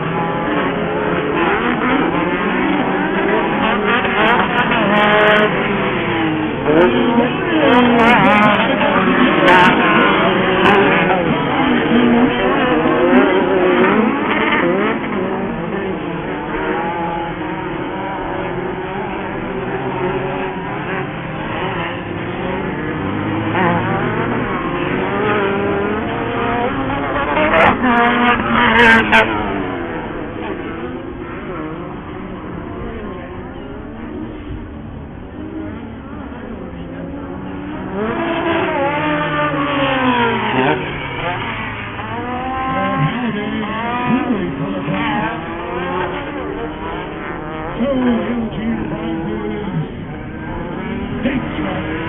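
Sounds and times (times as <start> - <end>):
race buggy engines revving: 0.0 - 52.0.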